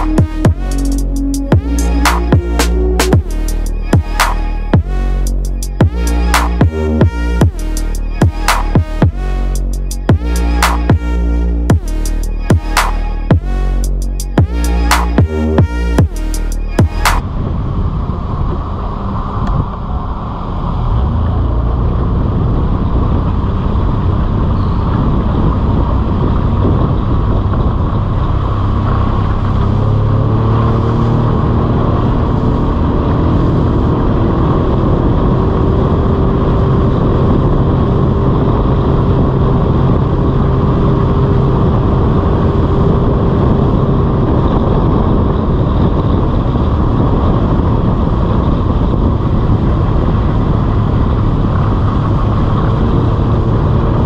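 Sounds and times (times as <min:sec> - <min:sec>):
speedboat engine hum: 0:00.0 - 0:54.0.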